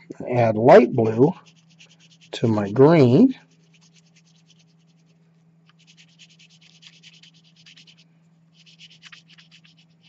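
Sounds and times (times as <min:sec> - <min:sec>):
oil pastel scratching on paper: 0:00.6 - 0:10.0.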